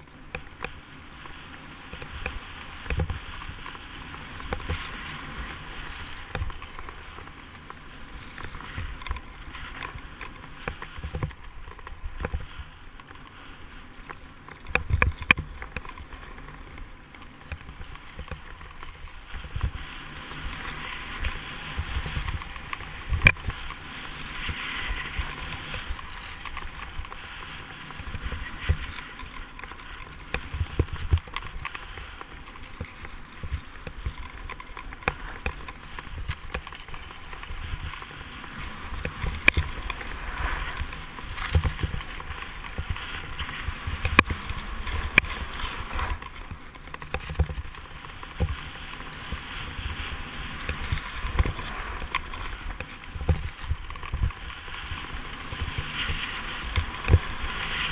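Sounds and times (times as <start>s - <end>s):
ski scraping on snow: 0.0s - 57.9s.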